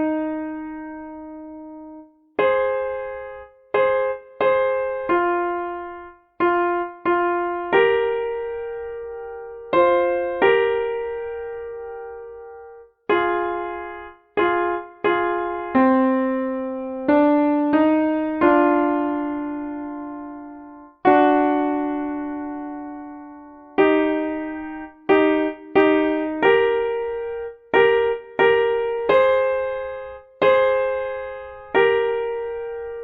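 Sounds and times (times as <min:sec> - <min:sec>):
slow piano melody: 0:00.0 - 0:33.0.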